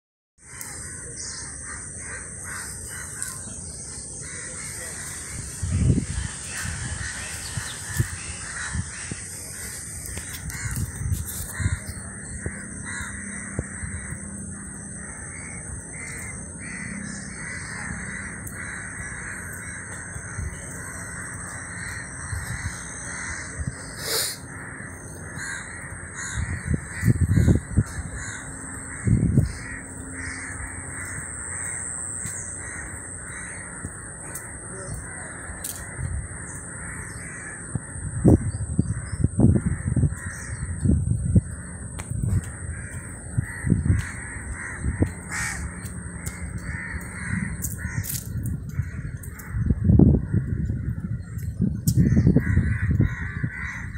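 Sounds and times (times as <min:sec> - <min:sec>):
crows cawing: 0:00.4 - 0:53.9
outdoor garden ambience: 0:00.4 - 0:53.9
steady high-pitched whine: 0:00.4 - 0:53.9.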